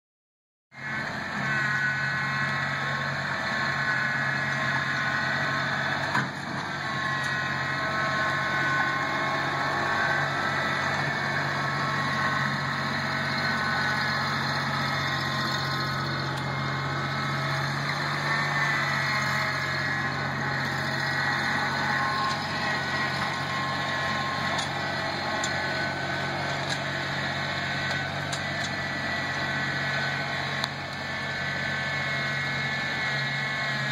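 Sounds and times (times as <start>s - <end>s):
tractor engine running: 0.8s - 33.9s.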